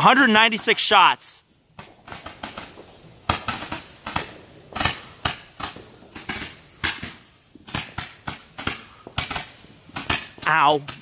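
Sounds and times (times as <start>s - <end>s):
firework bangs and pops: 0.0s - 11.0s.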